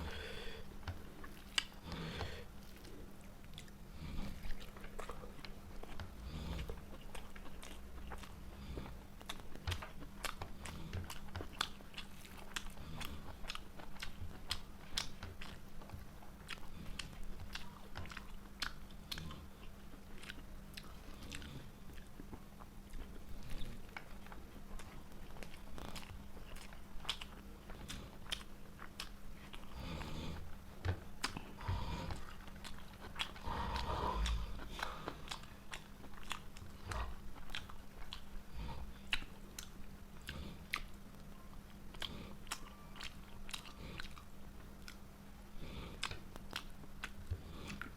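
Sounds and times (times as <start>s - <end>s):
person chewing food: 0.0s - 47.9s
steady low hum: 0.0s - 47.9s.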